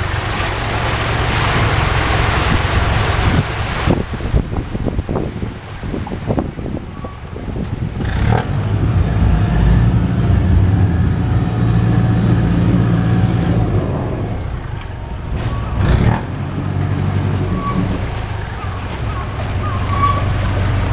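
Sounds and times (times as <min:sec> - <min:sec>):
ferry engine drone: 0:00.0 - 0:20.9.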